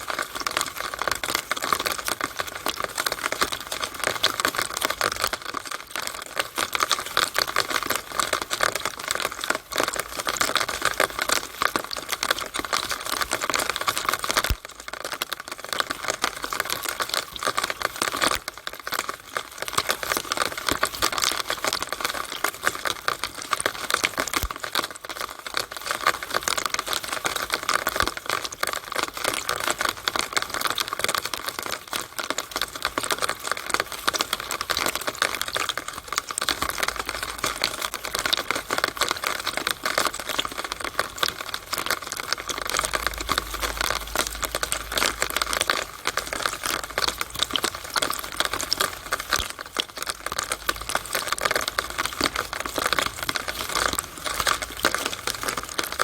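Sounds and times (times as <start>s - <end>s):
rainwater dripping and splashing: 0.0s - 56.0s.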